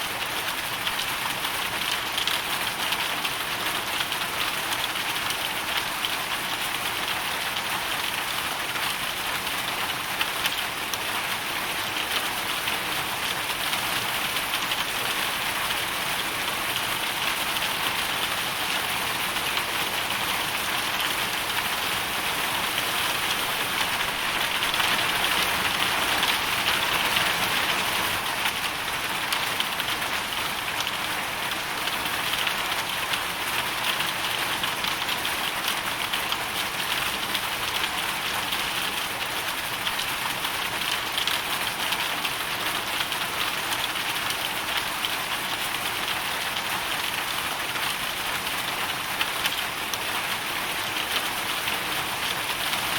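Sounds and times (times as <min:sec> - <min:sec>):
hail and rain striking surface: 0:00.0 - 0:52.9.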